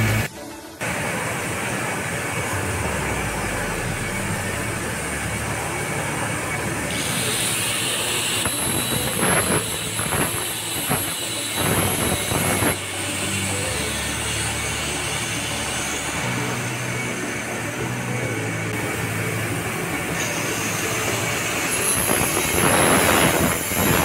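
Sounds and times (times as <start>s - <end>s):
angle grinder cutting steel pipe: 0.0s - 24.0s.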